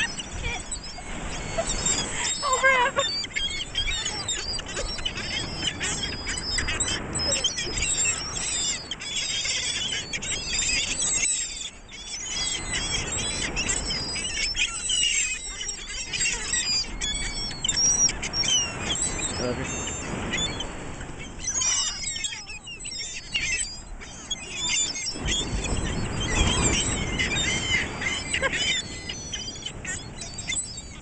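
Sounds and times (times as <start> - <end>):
seagulls calling: 0.0 - 31.0.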